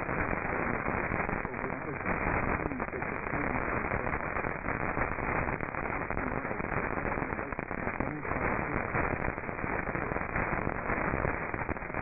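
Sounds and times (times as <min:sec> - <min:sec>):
radio static hiss and crackles: 0:00.0 - 0:12.0.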